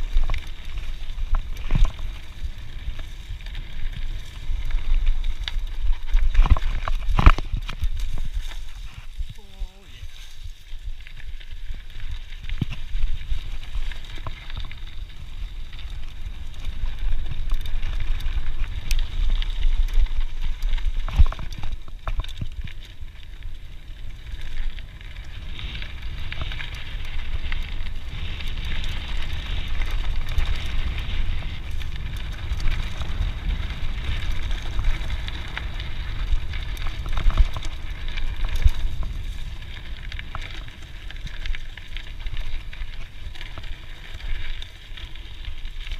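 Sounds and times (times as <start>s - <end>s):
bike clicks and rattles: 0.0s - 45.9s
bike tyres crackling on dirt: 0.0s - 45.9s
wind rumble on microphone: 0.0s - 45.9s.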